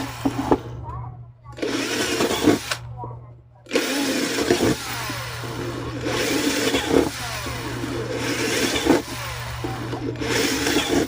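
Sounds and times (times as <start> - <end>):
cordless drill motor whining: 0.0 - 11.0.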